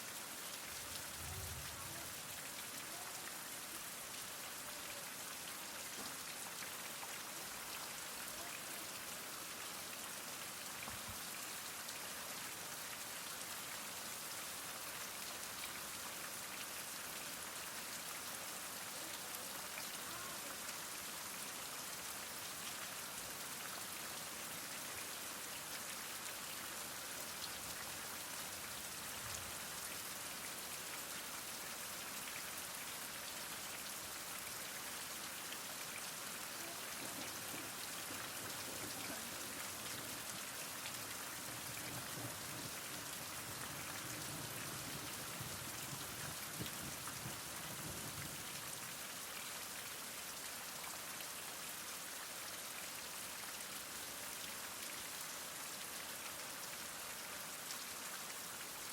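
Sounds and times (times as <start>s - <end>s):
heavy rain falling: 0.0s - 49.8s.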